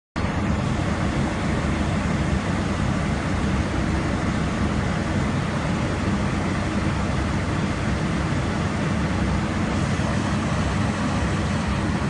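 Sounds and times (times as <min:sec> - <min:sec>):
airflow over fuselage: 0:00.2 - 0:12.0
cabin air-conditioning: 0:00.2 - 0:12.0.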